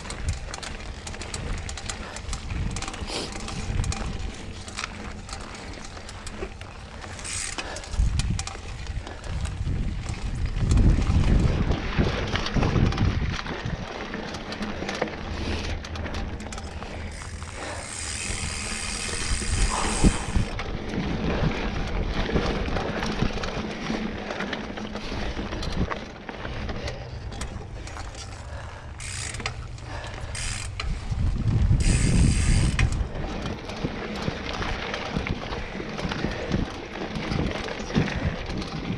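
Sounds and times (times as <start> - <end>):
bike freehub ratcheting clicks: 0.0 - 38.9
bike rattling: 0.0 - 38.9
tyre noise on dirt: 0.0 - 38.9.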